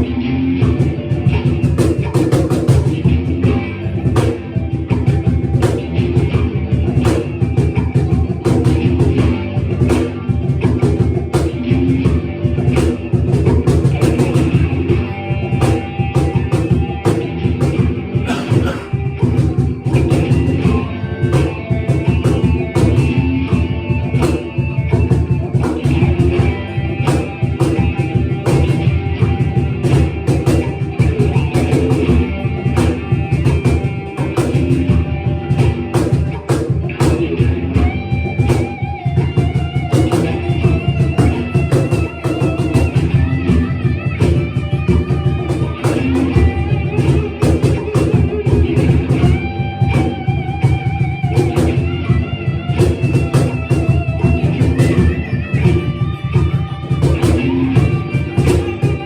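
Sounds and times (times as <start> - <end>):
cajon beat: 0.0 - 59.0
guitar: 0.0 - 59.0.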